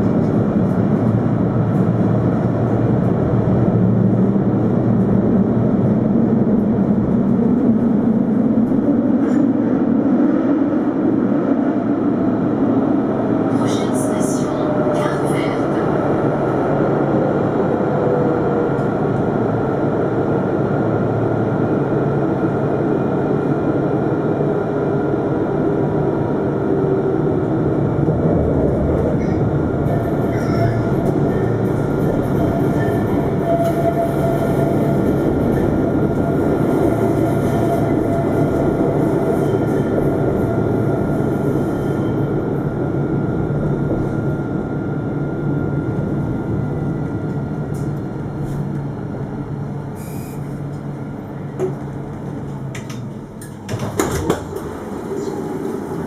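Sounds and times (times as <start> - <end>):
tram wheels rumbling on rail: 0.0 - 56.0.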